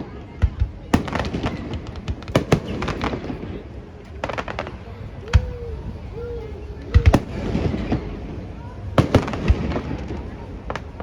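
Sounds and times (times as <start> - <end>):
background murmur: 0.0 - 11.0
fireworks bangs: 0.0 - 11.0
fireworks crackling: 0.0 - 11.0.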